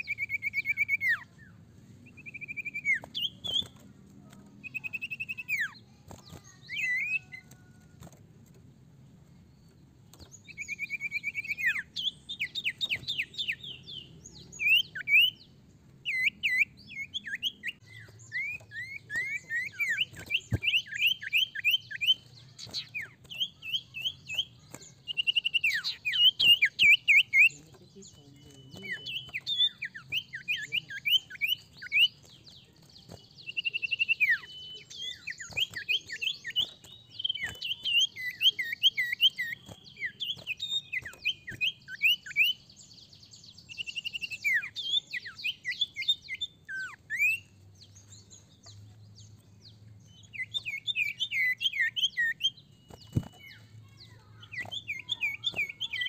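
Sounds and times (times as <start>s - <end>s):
bird chirping and whistling: 0.0s - 1.2s, 2.0s - 3.8s, 4.6s - 7.5s, 10.4s - 15.4s, 16.1s - 27.6s, 28.4s - 32.2s, 33.4s - 42.6s, 43.6s - 47.6s, 50.1s - 56.0s.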